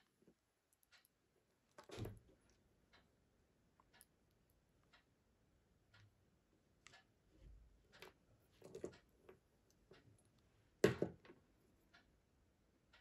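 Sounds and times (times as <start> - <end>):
faint watch ticking: 0.0 - 10.8, 11.4 - 13.0.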